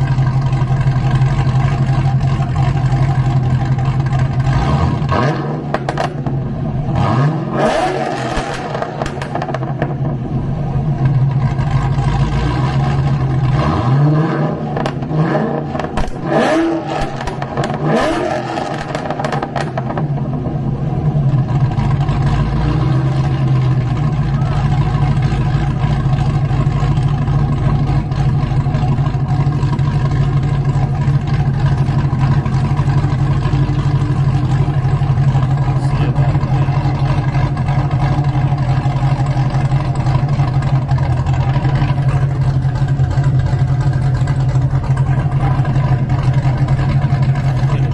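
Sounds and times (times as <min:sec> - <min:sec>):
car engine revving and idling: 0:00.0 - 0:47.9.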